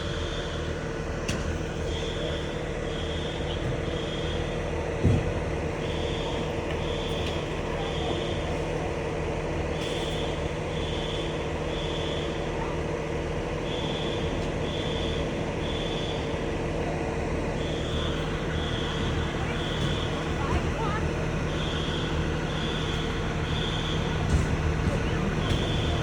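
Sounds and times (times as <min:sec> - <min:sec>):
fire alarm beeping: 0:00.0 - 0:26.0.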